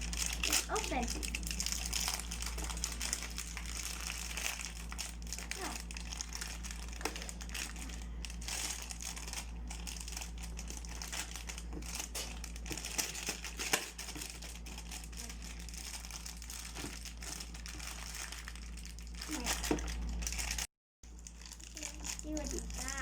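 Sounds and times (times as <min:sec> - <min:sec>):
plastic packaging rustling: 0:00.0 - 0:23.0
steady low hum: 0:00.0 - 0:23.0.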